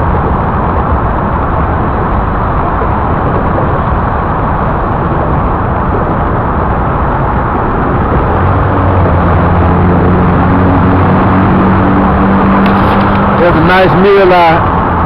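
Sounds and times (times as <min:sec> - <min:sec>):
low engine hum: 0:00.0 - 0:15.0
road traffic noise: 0:00.0 - 0:15.0
vehicle engine running: 0:00.0 - 0:15.0.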